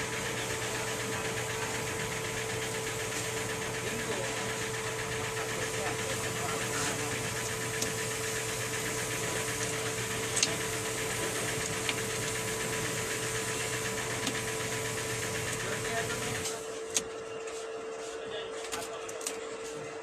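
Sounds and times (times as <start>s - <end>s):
steady hum with mid-pitched tone: 0.0s - 20.0s.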